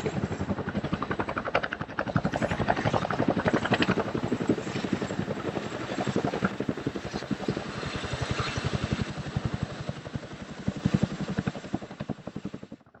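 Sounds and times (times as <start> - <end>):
helicopter rotor blade chop: 0.0 - 12.8
helicopter engine noise: 0.0 - 12.9.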